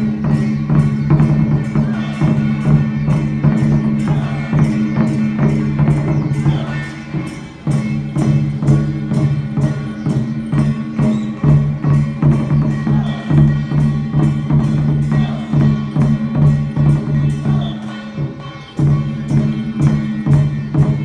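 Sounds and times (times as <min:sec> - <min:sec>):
held low tones: 0:00.0 - 0:21.0.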